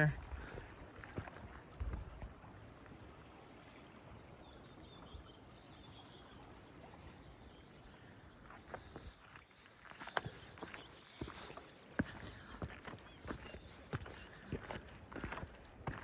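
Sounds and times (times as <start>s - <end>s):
faint rush of river water: 0.0s - 16.0s.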